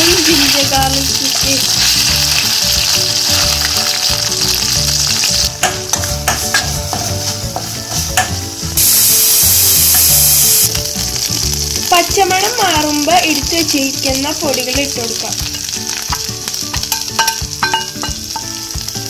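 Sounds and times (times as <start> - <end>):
food sizzling in oil: 0.0 - 19.0.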